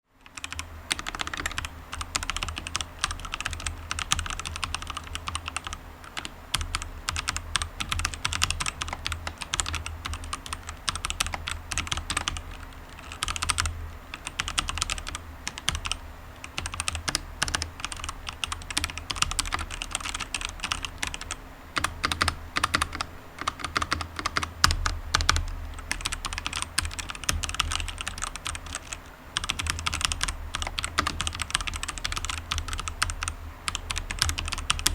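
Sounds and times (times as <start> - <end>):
typing on mechanical keyboard: 0.2 - 34.9.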